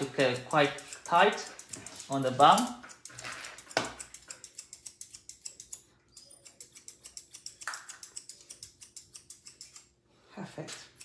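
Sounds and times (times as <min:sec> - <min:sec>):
grooming scissors snipping: 0:00.0 - 0:09.9.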